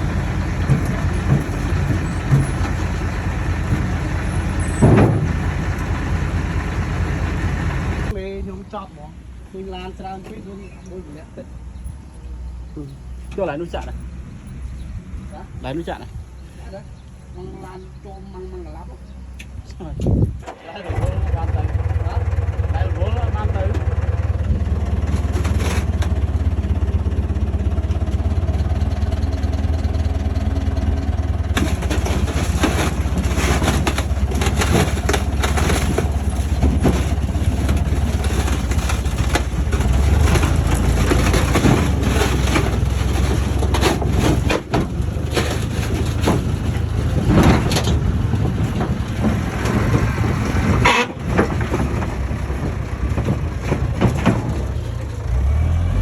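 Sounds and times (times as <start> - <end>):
tracks clanking and crunching earth: 0.0 - 8.6, 9.6 - 56.0
bulldozer diesel engine running: 0.0 - 56.0.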